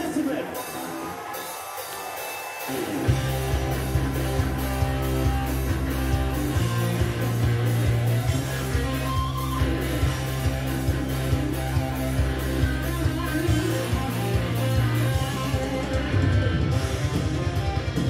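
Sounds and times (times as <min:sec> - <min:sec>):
guitar song with heavy bass: 0:00.0 - 0:18.0.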